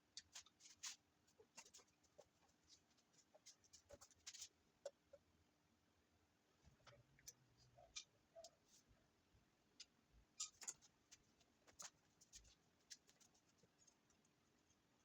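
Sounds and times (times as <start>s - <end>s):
faint irregular clicks and taps: 0.0s - 5.3s, 6.6s - 8.9s, 9.7s - 15.0s.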